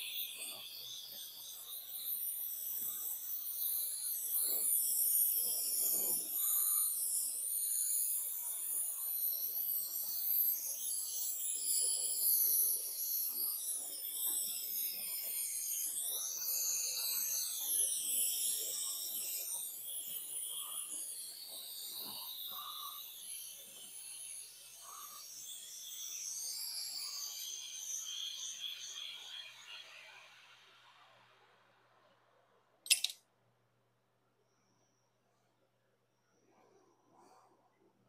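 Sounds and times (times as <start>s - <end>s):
steady high hiss: 0.0s - 31.5s.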